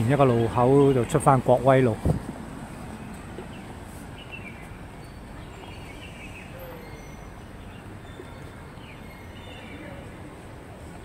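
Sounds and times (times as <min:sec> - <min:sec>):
low hum of road traffic: 0:00.0 - 0:11.0.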